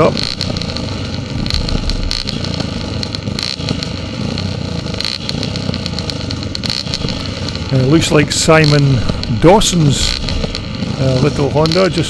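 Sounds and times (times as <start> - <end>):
faint steady tones: 0.0 - 12.0
motorcycle engines running: 0.0 - 12.0.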